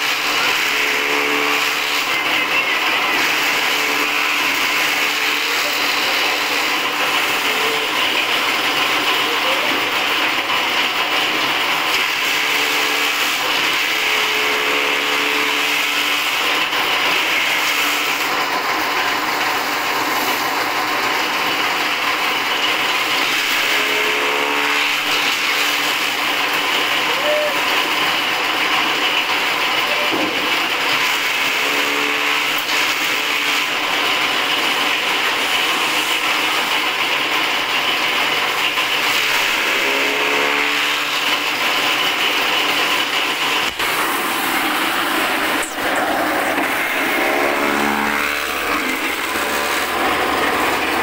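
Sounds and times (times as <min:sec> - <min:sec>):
blades chopping fodder: 0:00.0 - 0:51.0
electric motor running: 0:00.0 - 0:51.0.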